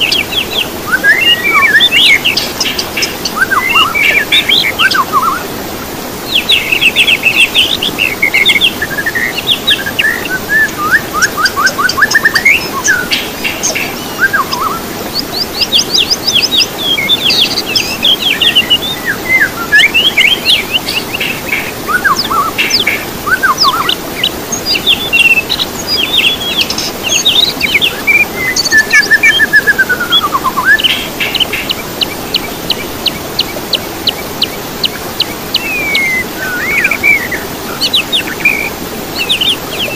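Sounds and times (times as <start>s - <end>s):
songbirds singing: 0.0s - 39.9s
steady background hiss: 0.0s - 39.9s.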